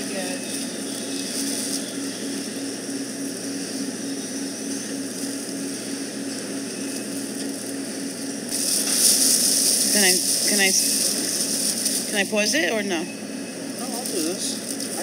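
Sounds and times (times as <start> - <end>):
constant hiss: 0.0 - 15.0
pulsing machine hum: 0.0 - 15.0.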